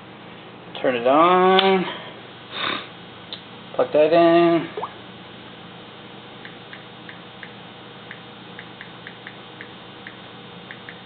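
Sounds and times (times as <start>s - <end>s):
amplifier hiss and hum: 0.0s - 11.0s.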